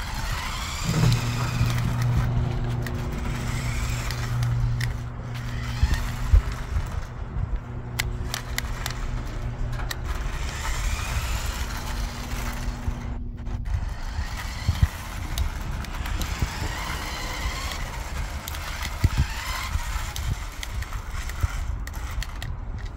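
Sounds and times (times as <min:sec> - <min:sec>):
plastic wheels rolling on asphalt: 0:00.0 - 0:22.9
scattered clicks: 0:00.0 - 0:22.9
steady low hum: 0:00.0 - 0:22.9
toy electric motor whining: 0:00.0 - 0:22.9.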